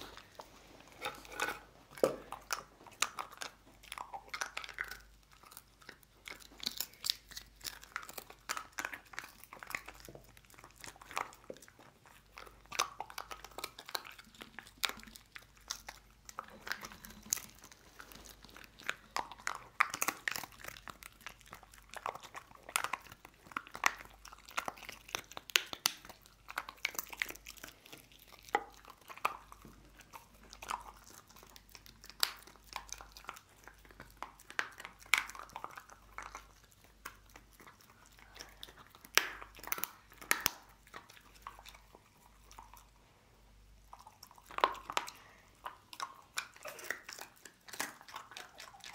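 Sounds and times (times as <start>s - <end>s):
dog crunching dried bone: 0.0s - 43.0s, 43.7s - 48.9s.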